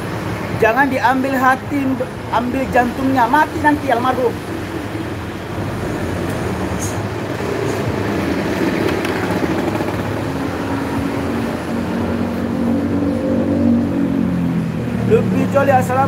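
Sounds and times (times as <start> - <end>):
nearby vehicle engine hum: 0.0 - 16.0
road traffic: 0.0 - 16.0.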